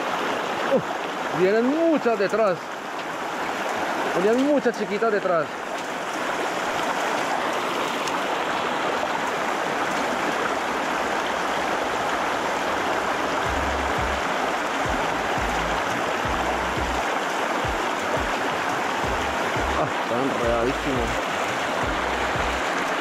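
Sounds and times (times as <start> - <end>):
creek rushing over rocks: 0.0 - 23.0.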